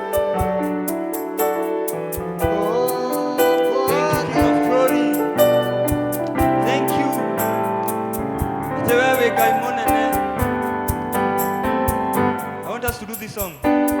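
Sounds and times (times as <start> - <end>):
keyboard playing worship music: 0.0 - 14.0
steady beat: 0.0 - 14.0.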